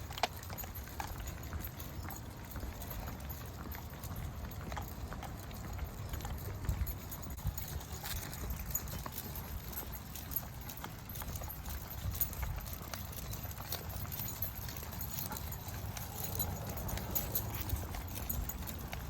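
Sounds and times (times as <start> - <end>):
constant low rumble: 0.0 - 19.0
footsteps on a trail: 0.0 - 19.0.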